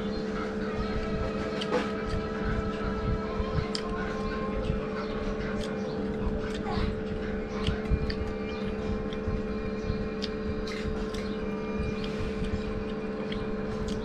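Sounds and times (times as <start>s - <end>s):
steady mechanical hum: 0.0s - 14.0s
chewing and smacking: 0.2s - 14.0s.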